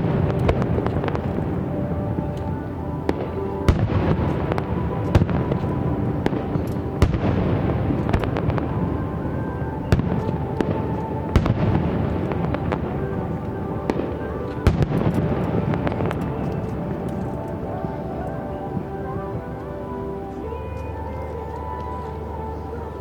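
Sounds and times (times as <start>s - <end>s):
fireworks bangs: 0.0s - 19.5s
fireworks crackling: 0.0s - 23.0s
music playing: 0.0s - 23.0s.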